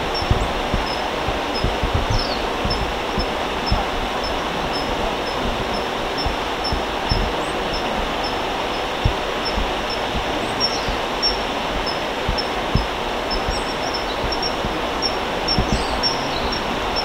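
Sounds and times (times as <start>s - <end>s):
bird chirping: 0.0s - 17.0s
low thumps: 0.0s - 17.0s
steady rushing noise: 0.0s - 17.0s.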